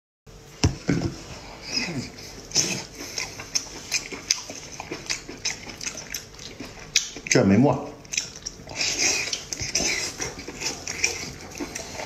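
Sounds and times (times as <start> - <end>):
wet mouth eating sounds: 1.6 - 12.0.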